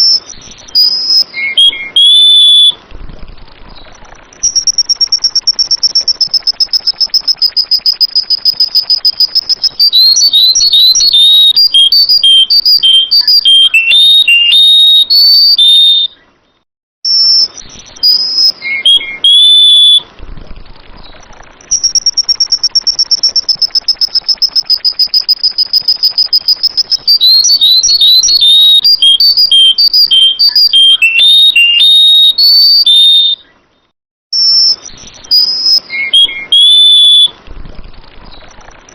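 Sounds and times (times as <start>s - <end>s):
bird song trills and whistles: 0.0s - 38.9s.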